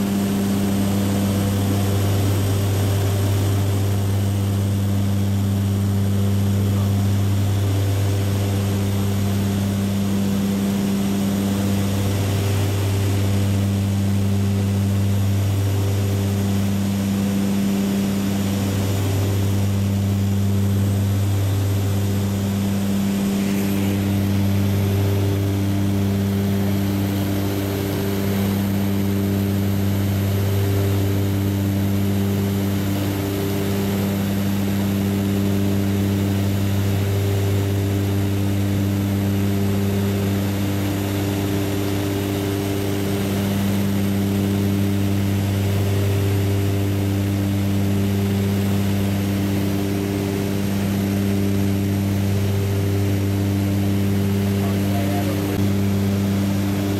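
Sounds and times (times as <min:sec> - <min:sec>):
aircraft propeller drone in cabin: 0:00.0 - 0:56.9.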